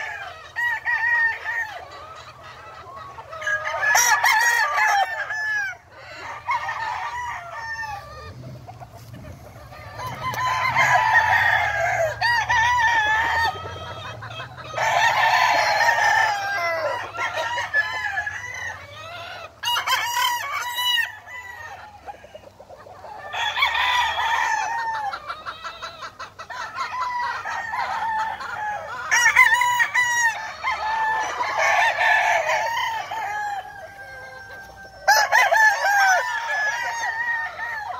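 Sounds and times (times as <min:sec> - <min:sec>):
hens clucking: 0:00.0 - 0:37.9
roosters crowing: 0:00.0 - 0:37.9.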